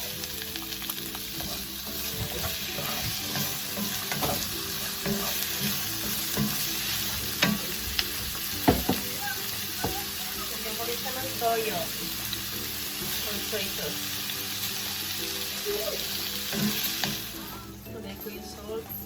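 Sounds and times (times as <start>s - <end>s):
vegetables sizzling in a frying pan: 0.0s - 17.8s.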